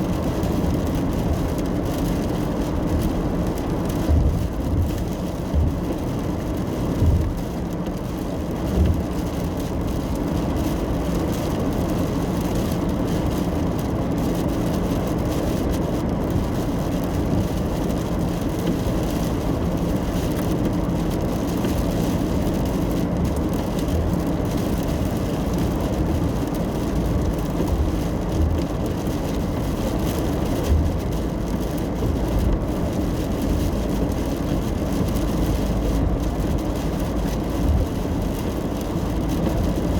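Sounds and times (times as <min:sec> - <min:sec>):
car tyre and engine drone: 0:00.0 - 0:39.9.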